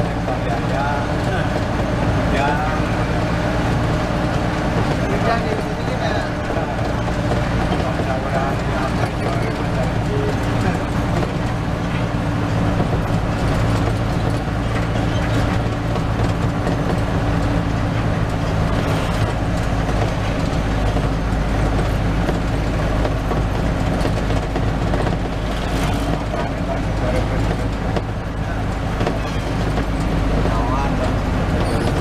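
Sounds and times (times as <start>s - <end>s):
bus engine hum: 0.0s - 32.0s
road noise: 0.0s - 32.0s.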